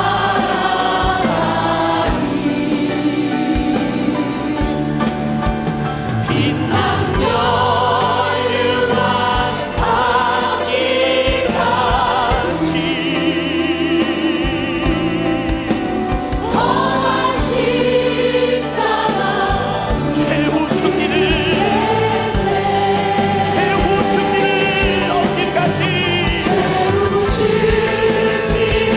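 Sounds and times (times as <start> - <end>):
congregation and choir singing hymn: 0.0 - 28.9
organ accompaniment: 0.0 - 28.9
steady drum beat: 0.0 - 28.9.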